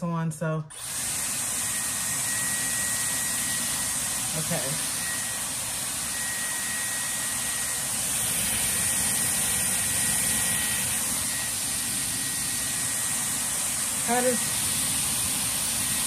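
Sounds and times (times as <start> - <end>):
hair styler blowing air: 0.7 - 16.0.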